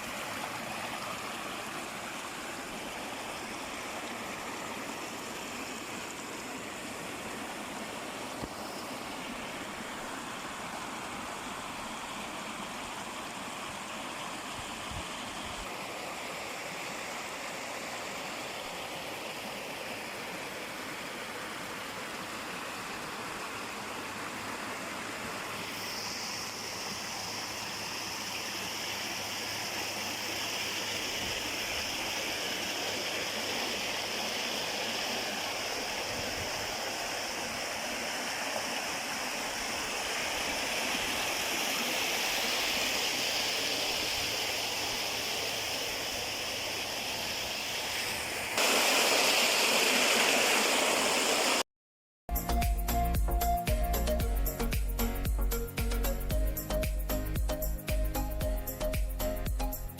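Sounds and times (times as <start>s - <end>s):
stream of water running: 0.0s - 51.7s, 52.3s - 59.9s.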